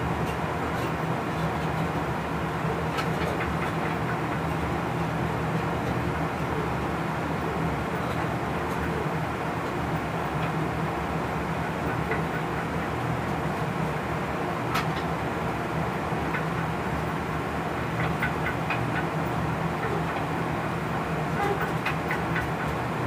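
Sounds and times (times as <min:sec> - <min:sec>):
locomotive cab rumble and hum: 0:00.0 - 0:23.0.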